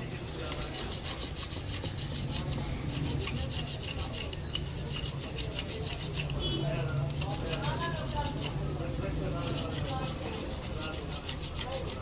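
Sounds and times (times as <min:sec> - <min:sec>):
fast scraping strokes by hand: 0:00.4 - 0:08.7, 0:09.3 - 0:12.0.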